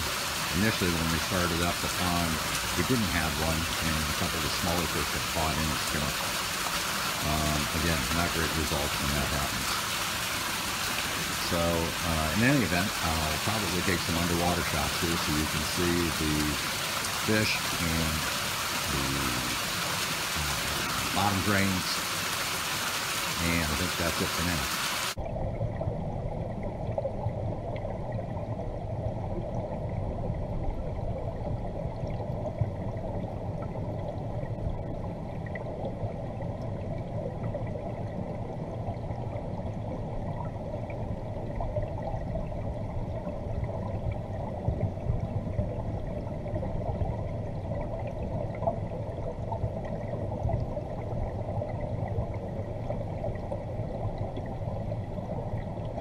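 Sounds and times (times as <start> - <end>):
muffled underwater water rush: 0.0 - 56.0.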